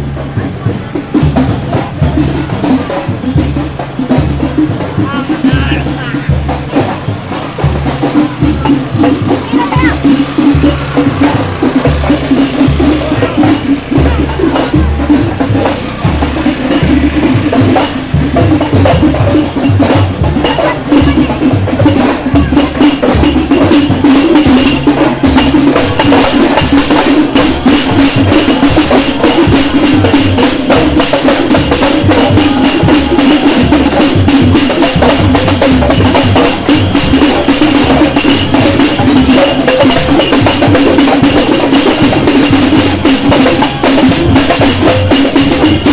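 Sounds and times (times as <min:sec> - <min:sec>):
music with heavy bass beat: 0:00.0 - 0:45.9
tambourine: 0:00.0 - 0:45.9.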